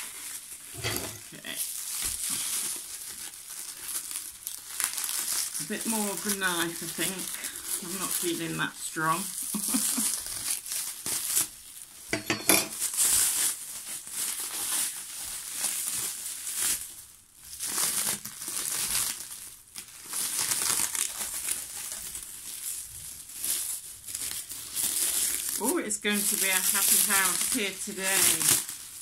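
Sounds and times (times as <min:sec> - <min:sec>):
plastic wrap crinkling and rustling: 0:00.0 - 0:29.0.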